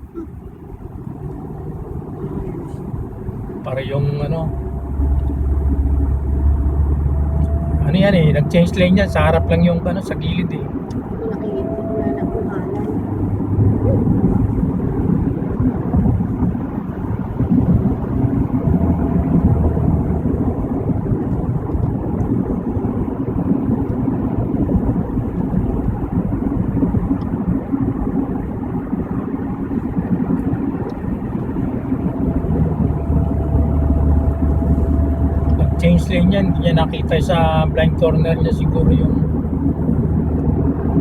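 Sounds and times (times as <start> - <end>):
car engine hum: 0.0 - 41.0.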